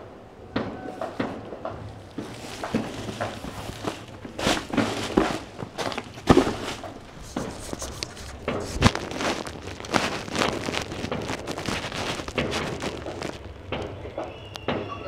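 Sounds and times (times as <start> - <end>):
bubble wrap rustling: 0.7 - 14.5.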